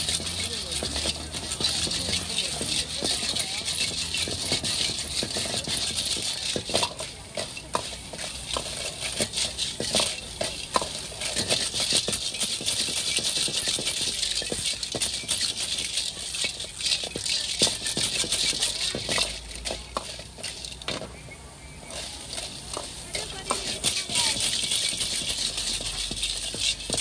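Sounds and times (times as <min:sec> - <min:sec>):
shells clattering in a steel wok: 0:00.0 - 0:21.1, 0:21.8 - 0:27.0
frying hiss: 0:00.0 - 0:27.0.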